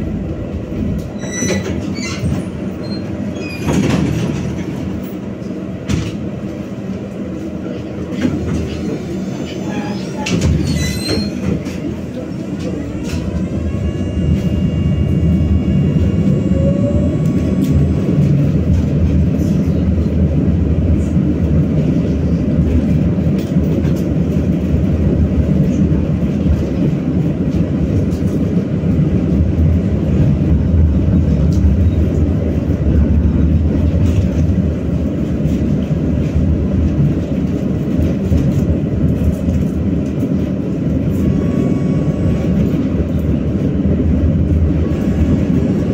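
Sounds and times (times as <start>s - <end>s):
tram wheels rumbling on rails: 0.0s - 45.9s.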